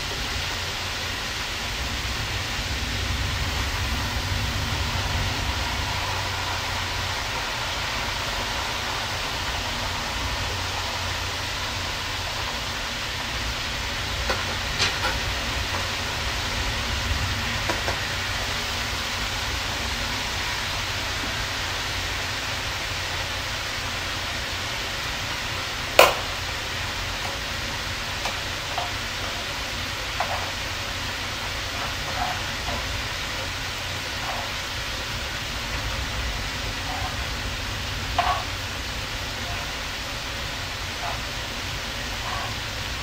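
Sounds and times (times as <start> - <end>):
food frying in a wok: 0.0 - 43.0.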